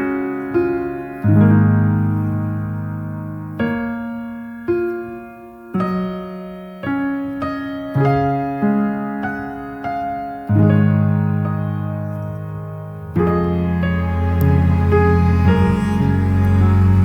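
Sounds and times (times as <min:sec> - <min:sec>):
slow solo piano: 0:00.0 - 0:17.0.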